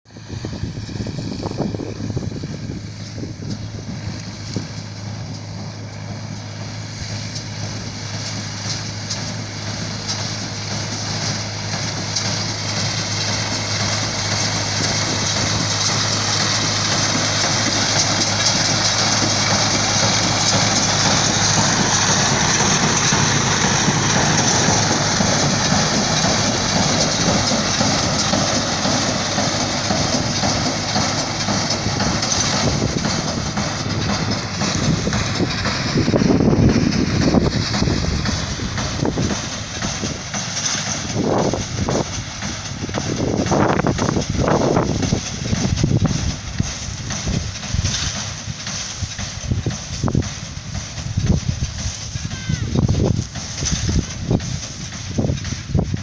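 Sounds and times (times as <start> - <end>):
engine hum: 0.1 - 56.0
hay baler machinery noise: 0.1 - 56.0.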